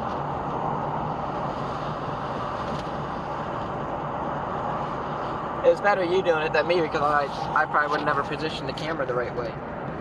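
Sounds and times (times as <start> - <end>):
car road noise from cabin: 0.0 - 10.0.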